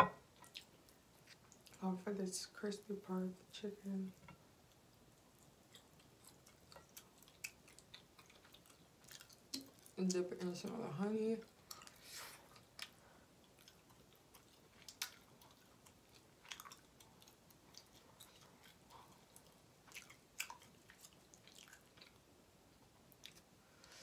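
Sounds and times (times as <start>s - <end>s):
person chewing food: 0.2s - 1.8s, 4.2s - 10.1s, 11.4s - 24.0s.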